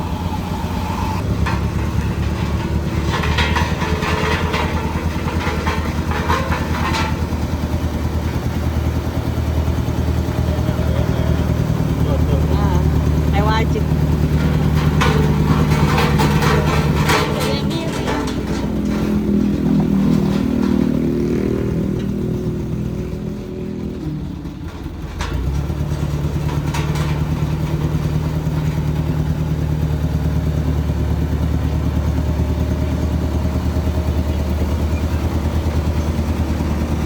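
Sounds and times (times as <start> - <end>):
combustion engine running: 0.0 - 37.0.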